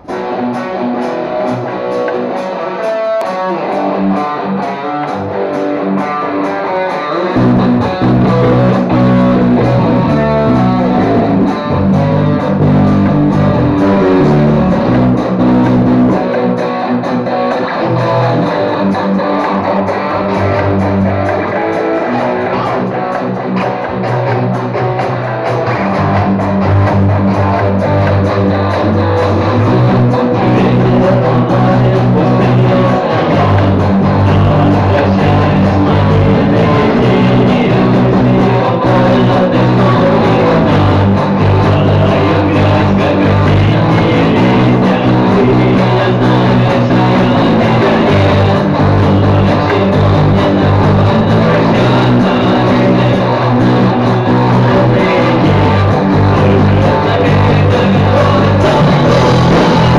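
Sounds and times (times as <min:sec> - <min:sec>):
electric guitar through an amp: 0:00.0 - 0:59.9
rock backing track: 0:00.0 - 0:59.9
deep bass line: 0:07.4 - 0:59.9.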